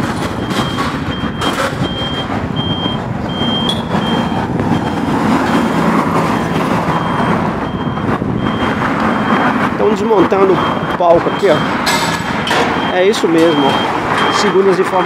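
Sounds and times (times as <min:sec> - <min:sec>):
engines and street traffic: 0:00.0 - 0:15.0
reversing alarm beeping: 0:00.1 - 0:15.0.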